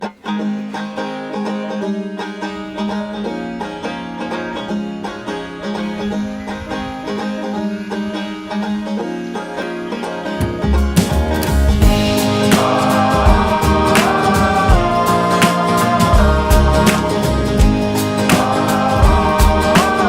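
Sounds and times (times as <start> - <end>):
banjo and guitar bluegrass music: 0.0 - 20.0.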